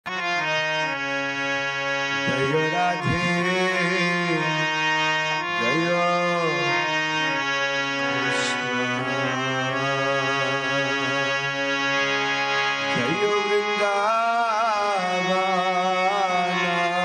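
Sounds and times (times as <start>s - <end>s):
reed keyboard sustained chords: 0.1s - 17.0s.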